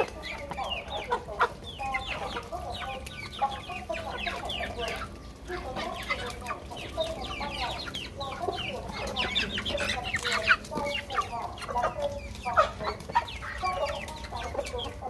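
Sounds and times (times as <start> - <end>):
beaks pecking metal bowl: 0.0 - 15.0
chickens clucking: 0.0 - 15.0.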